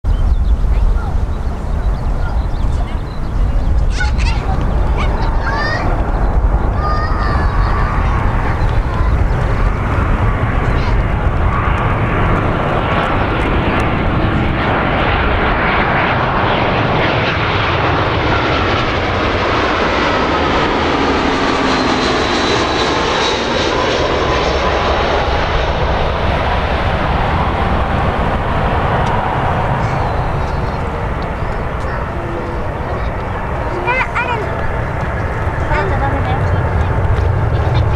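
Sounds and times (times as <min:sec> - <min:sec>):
jet engines passing overhead: 0:00.1 - 0:37.9.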